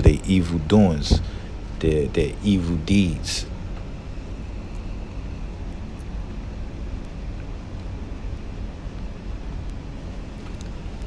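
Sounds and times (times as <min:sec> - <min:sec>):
air blowing from vent: 0:00.0 - 0:11.0.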